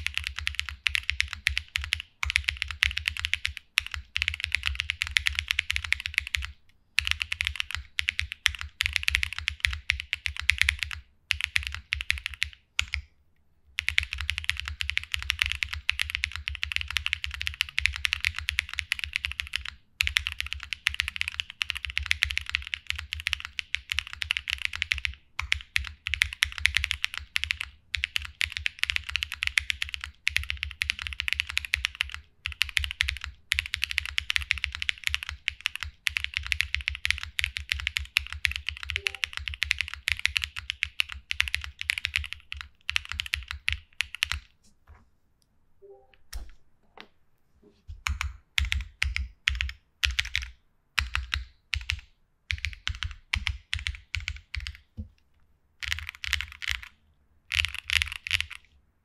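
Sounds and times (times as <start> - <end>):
fast mechanical keyboard typing: 0.0 - 13.0, 13.8 - 44.5, 48.0 - 54.9, 55.8 - 58.8.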